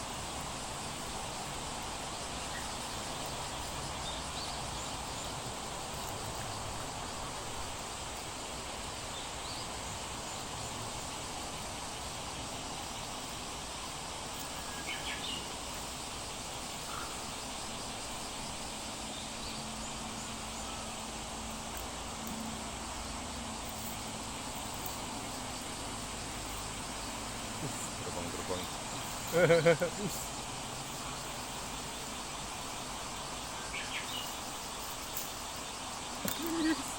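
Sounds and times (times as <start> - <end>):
river hiss: 0.0 - 36.9.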